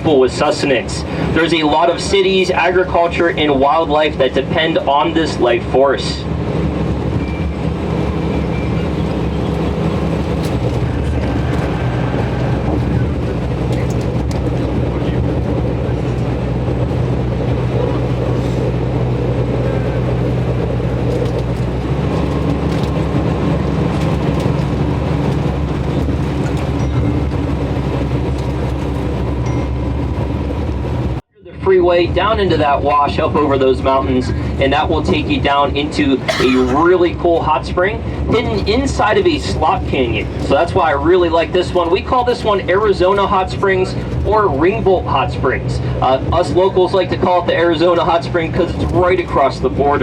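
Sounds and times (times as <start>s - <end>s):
bus engine and road drone: 0.0s - 50.0s.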